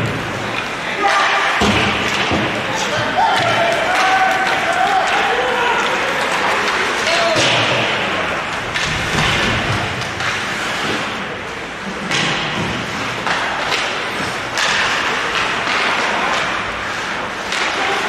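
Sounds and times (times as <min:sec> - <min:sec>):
skates scraping ice: 0:00.0 - 0:18.0
sticks and puck hitting boards: 0:00.0 - 0:18.0.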